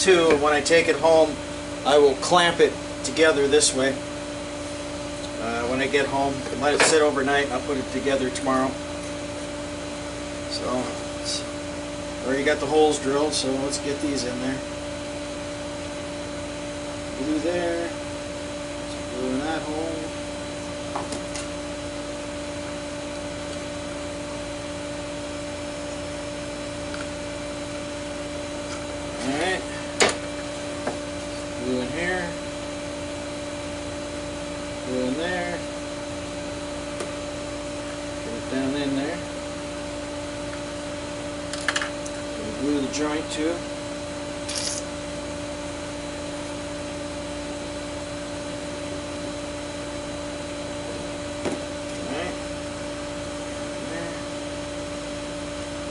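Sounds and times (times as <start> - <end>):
mechanical hum: 0.0 - 55.9.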